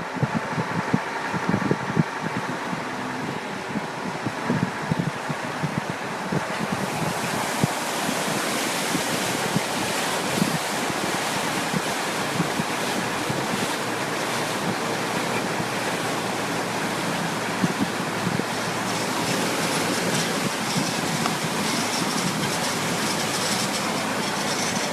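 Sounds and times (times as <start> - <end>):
truck rushing noise: 0.8 - 24.9.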